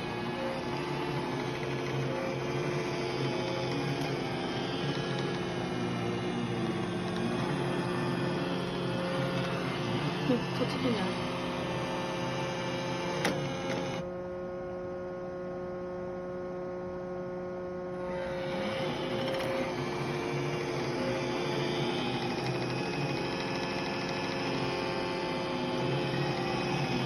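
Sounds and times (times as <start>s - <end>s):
robot vacuum running: 0.0s - 14.1s, 17.9s - 27.0s.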